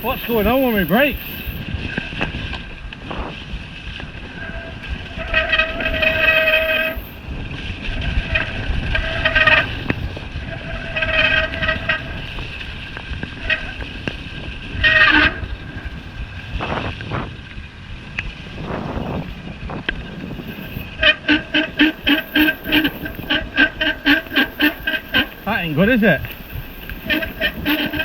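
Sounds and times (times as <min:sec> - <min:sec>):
bicycle disc brake squealing: 0:00.0 - 0:03.4, 0:04.2 - 0:07.4, 0:08.1 - 0:16.2, 0:20.1 - 0:28.0.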